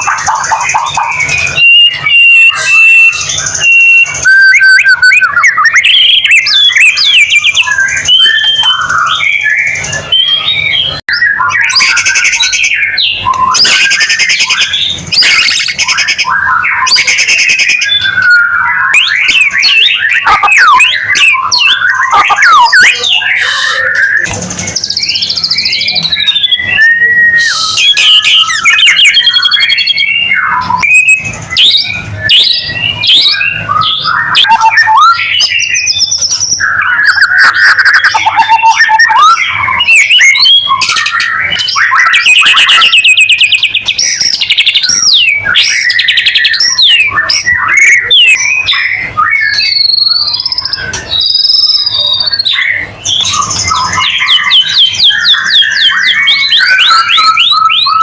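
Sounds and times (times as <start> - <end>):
bird whistled song: 0.0 - 58.0.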